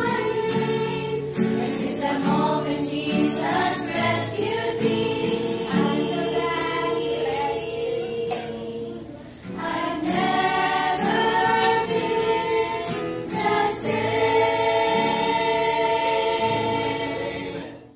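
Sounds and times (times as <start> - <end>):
acoustic guitar: 0.0 - 17.9
women's choir singing a hymn: 0.0 - 17.9.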